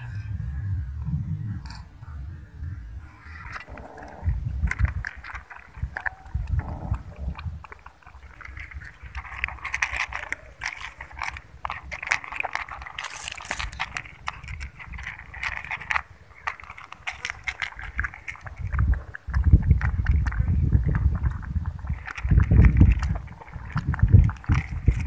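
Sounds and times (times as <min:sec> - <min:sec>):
cats lapping milk: 0:03.4 - 0:25.0.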